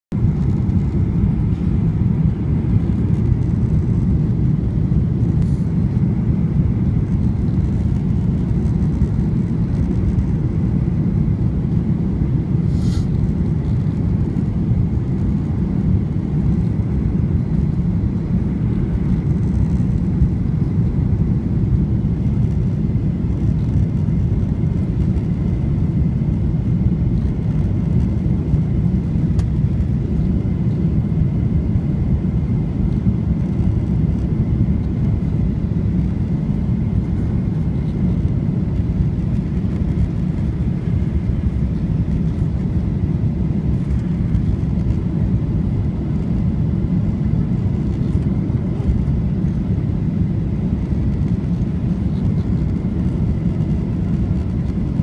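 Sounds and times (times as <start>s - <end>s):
airplane cabin engine rumble: 0.1s - 55.0s
faint steady whine: 0.1s - 55.0s.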